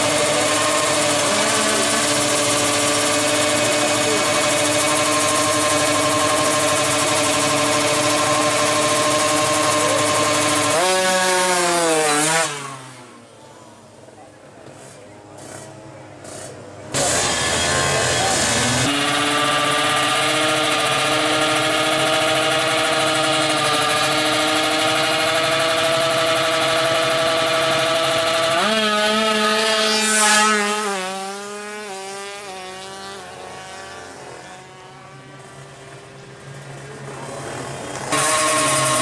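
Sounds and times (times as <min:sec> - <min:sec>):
two-stroke motorcycle engine revving: 0:00.0 - 0:13.3, 0:15.4 - 0:39.0.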